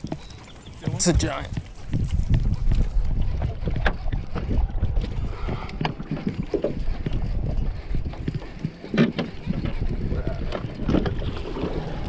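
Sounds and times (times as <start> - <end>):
water lapping around boat: 0.0 - 12.0
wind buffeting microphone: 0.0 - 12.0.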